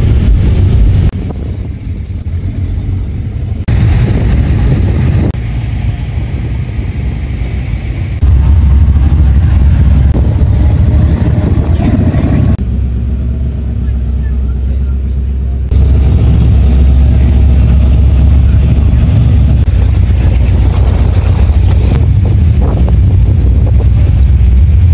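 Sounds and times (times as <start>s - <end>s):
car engines rumbling past: 0.0s - 24.9s.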